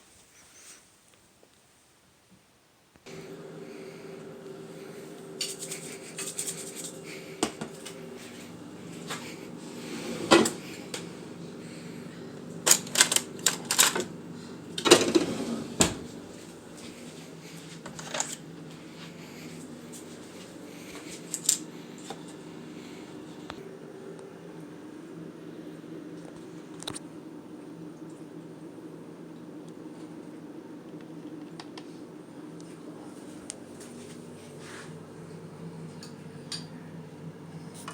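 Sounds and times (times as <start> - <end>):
low hum: 3.1 - 37.9.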